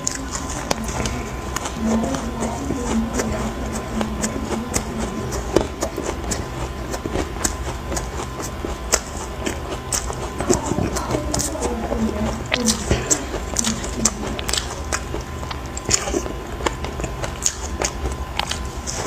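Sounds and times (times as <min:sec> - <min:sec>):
ice crunching while chewed: 0:00.0 - 0:19.0
low hum: 0:00.0 - 0:19.0.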